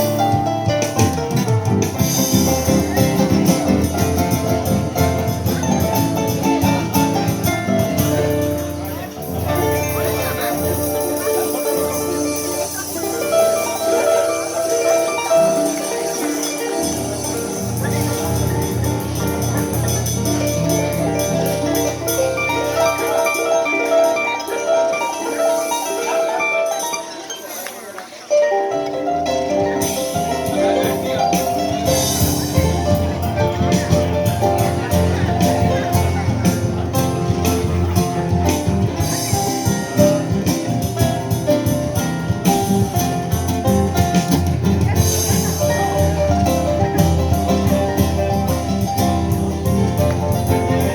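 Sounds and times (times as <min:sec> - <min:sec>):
harp music: 0:00.0 - 0:50.9.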